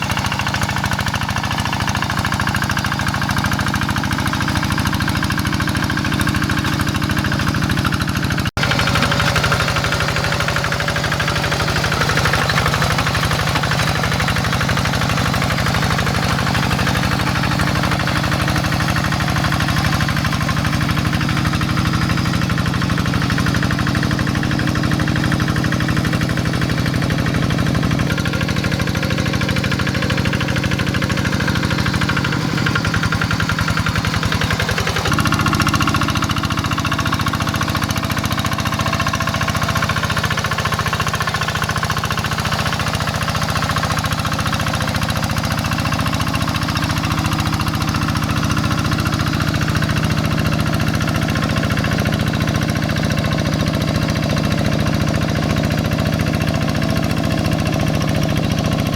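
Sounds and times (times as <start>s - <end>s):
knocking diesel engine running: 0.0s - 58.9s.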